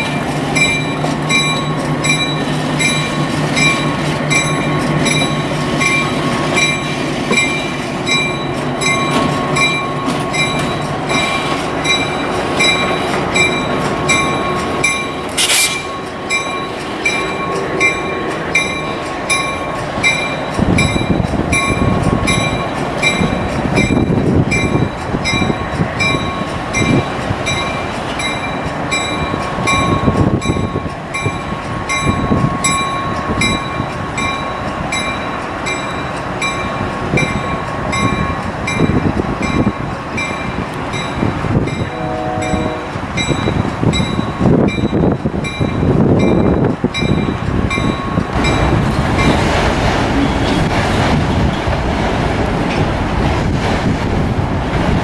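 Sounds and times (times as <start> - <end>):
locomotive bell ringing: 0.0 - 51.6
diesel locomotive engines running: 0.0 - 55.0.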